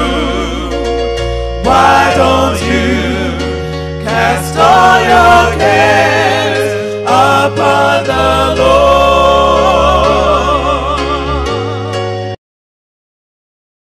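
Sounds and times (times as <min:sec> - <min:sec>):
choir singing gospel: 0:00.0 - 0:12.4
steady bass notes: 0:00.0 - 0:12.4.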